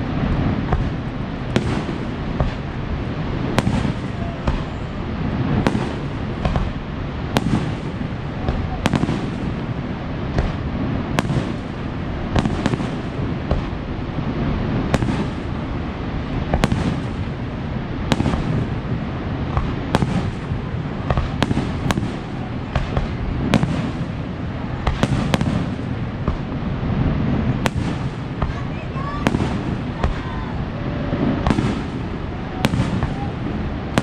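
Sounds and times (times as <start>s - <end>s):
fireworks bursts: 0.0s - 34.0s.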